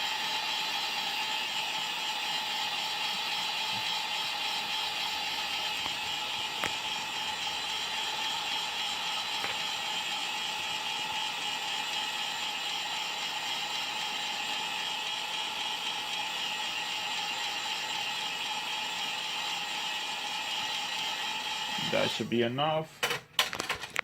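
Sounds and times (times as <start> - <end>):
heat gun blowing air: 0.0 - 22.2.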